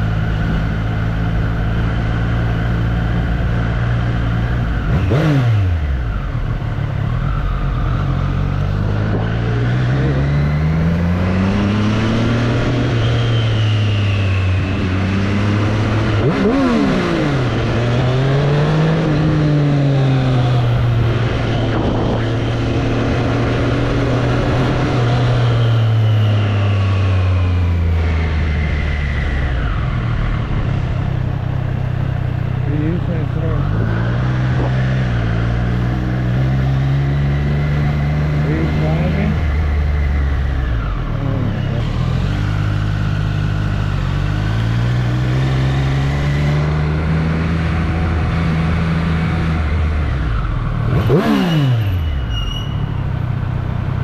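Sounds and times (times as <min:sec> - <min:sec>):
motorcycle engine running: 0:00.0 - 0:13.2, 0:14.3 - 0:54.0.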